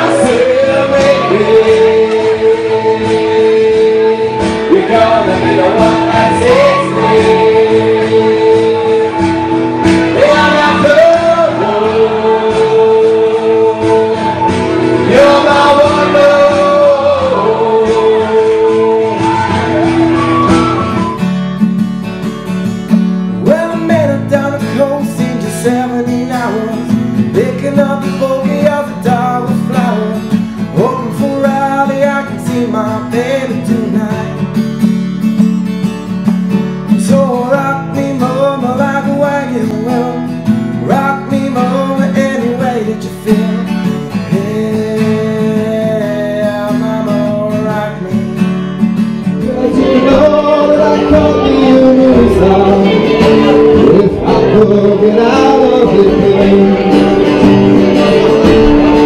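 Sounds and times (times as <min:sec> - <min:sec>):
man singing: 0:00.0 - 0:19.8, 0:23.4 - 0:34.8, 0:36.9 - 0:59.0
acoustic guitar strumming: 0:00.0 - 0:59.0.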